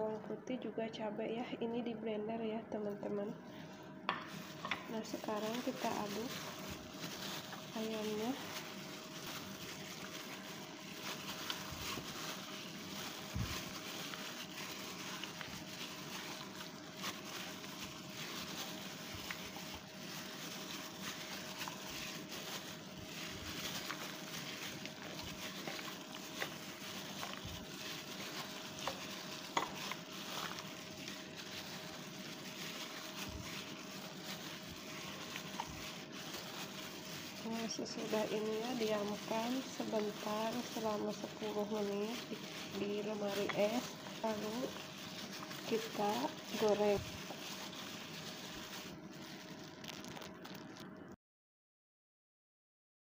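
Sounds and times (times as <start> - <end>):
wet squishing of chicken in flour: 3.3 - 50.9.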